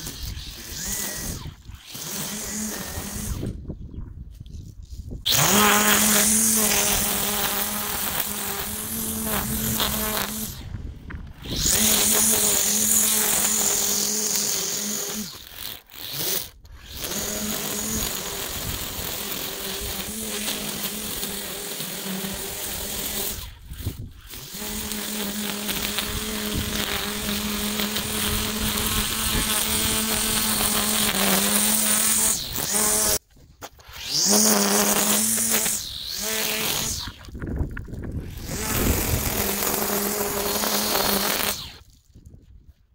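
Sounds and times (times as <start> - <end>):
string trimmer whining: 0.0 - 3.8, 4.8 - 42.2.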